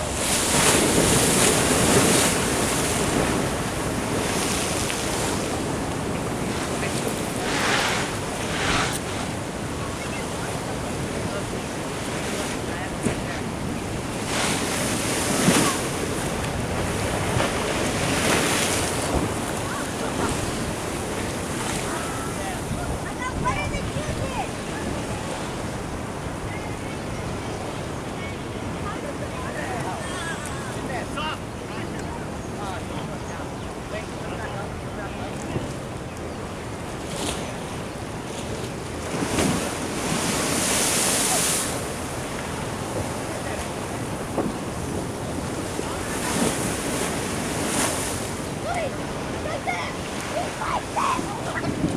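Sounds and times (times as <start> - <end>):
surf washing against sea wall: 0.0 - 51.9
wind on the microphone: 0.0 - 51.9.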